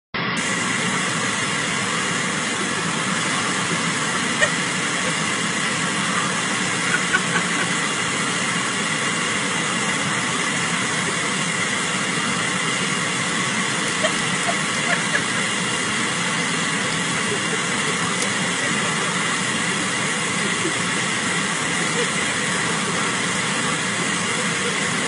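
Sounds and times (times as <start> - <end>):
air conditioning blowing: 0.2 - 25.0.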